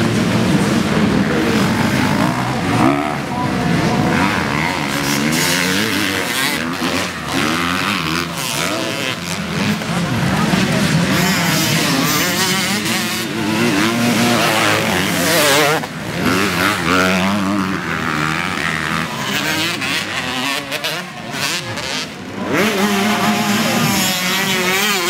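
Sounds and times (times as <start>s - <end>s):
dirt bike engines racing: 0.0s - 25.0s.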